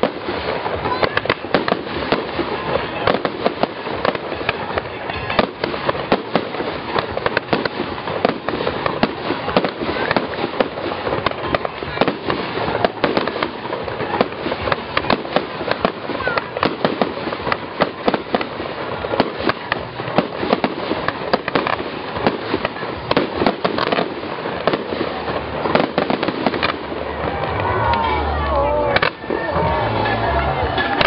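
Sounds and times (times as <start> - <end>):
fireworks bangs and pops: 0.0 - 31.0.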